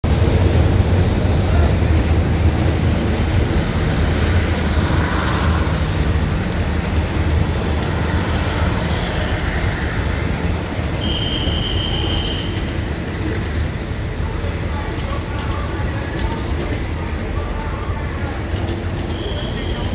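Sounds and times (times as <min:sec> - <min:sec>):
train rumbling on rails: 0:00.0 - 0:19.9.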